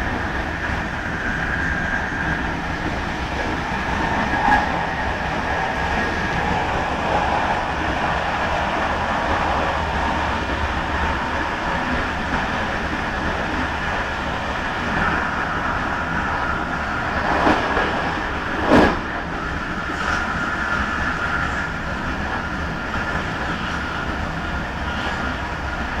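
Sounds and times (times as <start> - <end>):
steady whine: 0.0 - 26.0
train rolling on track: 0.0 - 26.0.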